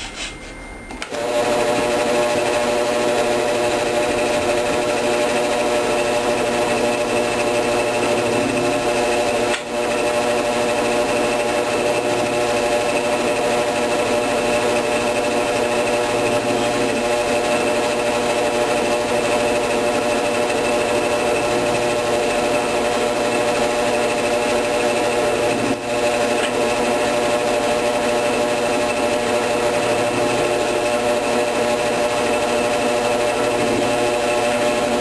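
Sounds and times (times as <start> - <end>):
drill press running: 0.0 - 35.0.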